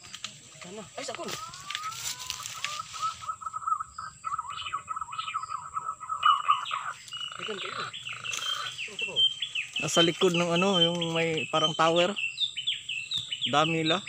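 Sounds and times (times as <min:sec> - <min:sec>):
birds chirping and trilling: 0:00.0 - 0:14.0
bird whistling: 0:01.1 - 0:14.0.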